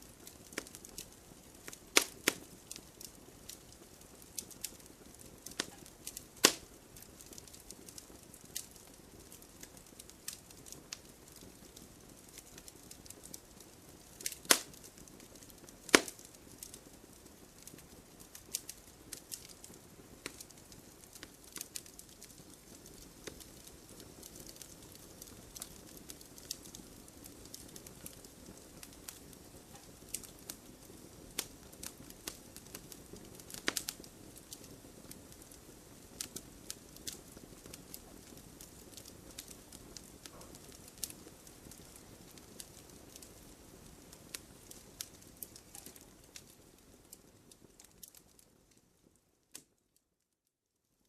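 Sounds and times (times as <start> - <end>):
campfire crackling: 0.0 - 49.8
fire pops and snaps: 0.0 - 49.8.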